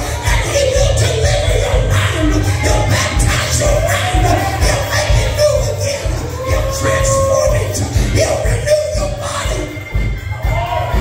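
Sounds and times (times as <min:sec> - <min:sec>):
live gospel music: 0:00.0 - 0:11.0.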